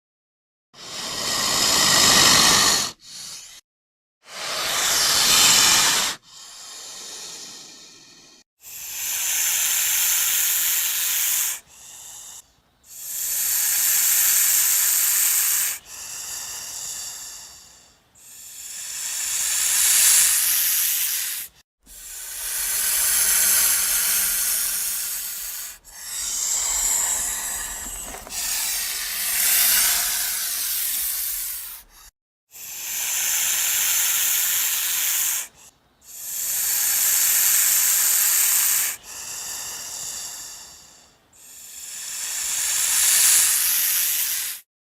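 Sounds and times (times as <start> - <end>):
snake hissing: 0.8 - 3.6, 4.2 - 44.7.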